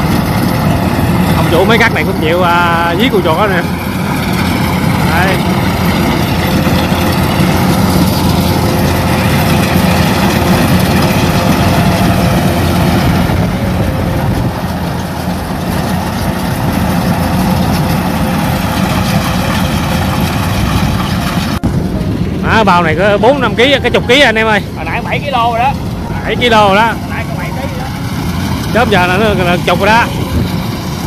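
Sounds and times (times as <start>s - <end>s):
combine harvester engine running: 0.0s - 31.0s.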